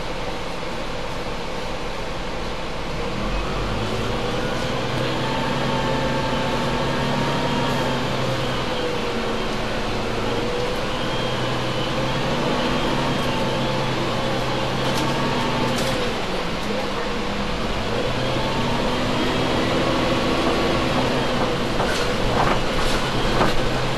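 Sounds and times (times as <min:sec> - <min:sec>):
diesel bus engine idling: 0:00.0 - 0:23.9.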